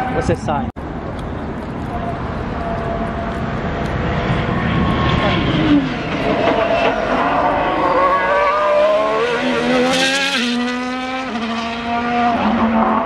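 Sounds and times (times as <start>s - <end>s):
racing car engine at speed: 1.1s - 13.0s.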